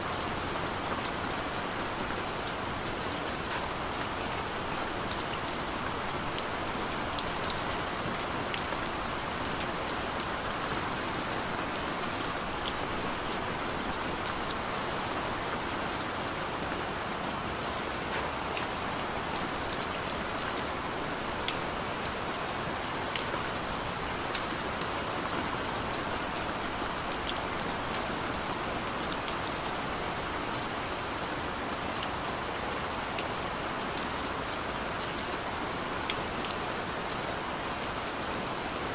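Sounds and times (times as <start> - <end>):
raindrops pattering on a surface: 0.0 - 38.9
steady rain hiss: 0.0 - 38.9.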